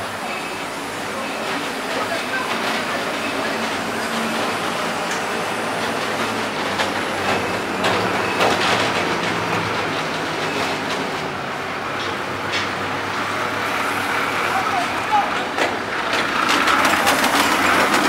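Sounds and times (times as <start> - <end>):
diesel pump engine humming: 0.0 - 18.0.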